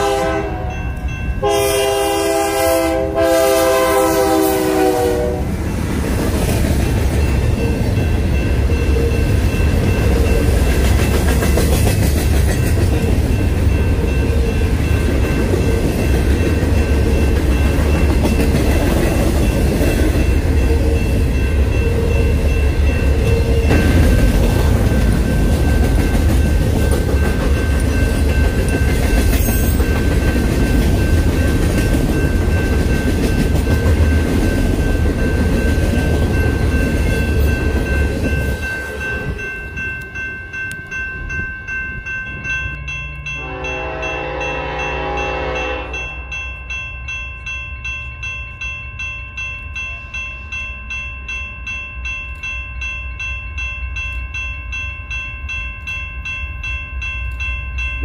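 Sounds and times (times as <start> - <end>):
steel wheels rumbling on rail: 0.0 - 47.6.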